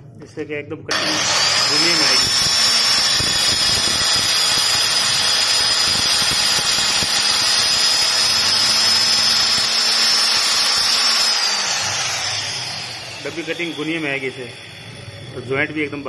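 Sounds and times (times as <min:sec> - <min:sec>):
blade grinding through stone: 0:00.9 - 0:14.8
electric cutter whine: 0:00.9 - 0:16.0.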